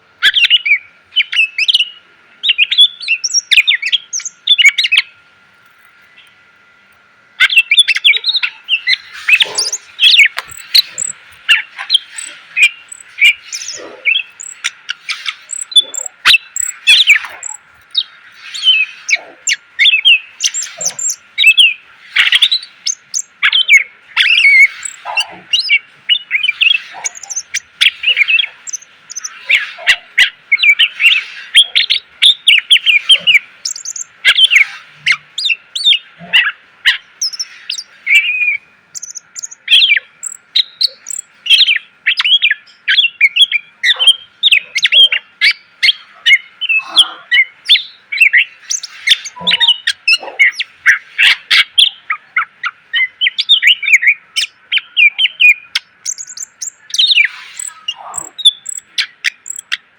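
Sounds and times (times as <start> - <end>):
bird singing chirps and whistles: 0.2 - 5.1, 7.4 - 59.8.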